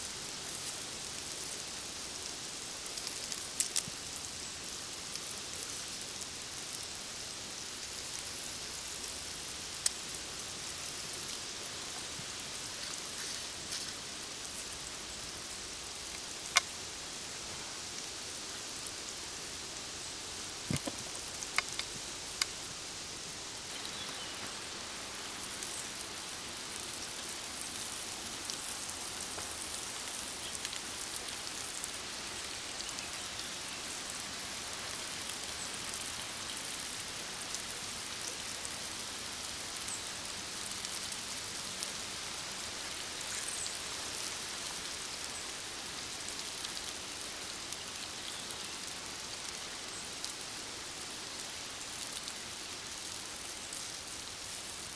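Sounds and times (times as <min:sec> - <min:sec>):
steak sizzling over campfire: 0:00.0 - 0:54.9.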